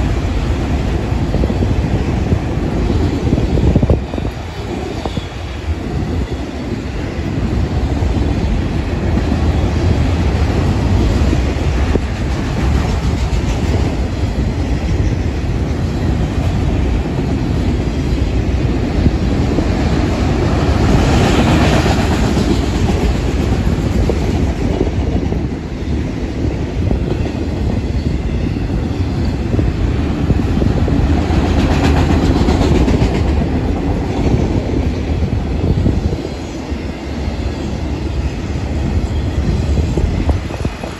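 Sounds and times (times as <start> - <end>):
clickety-clack over rail joints: 0.0 - 40.9
train wheels rumbling on rail: 0.0 - 40.9.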